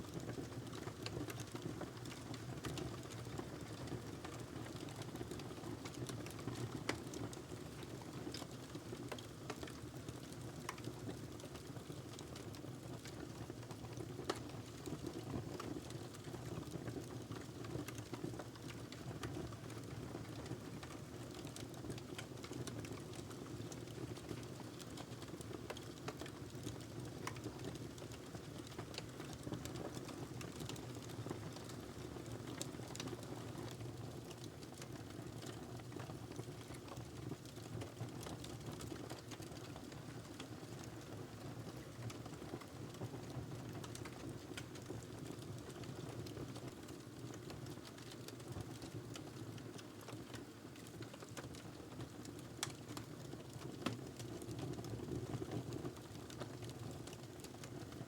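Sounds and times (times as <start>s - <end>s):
burning wood crackling and popping: 4.3s - 41.0s, 43.6s - 57.8s.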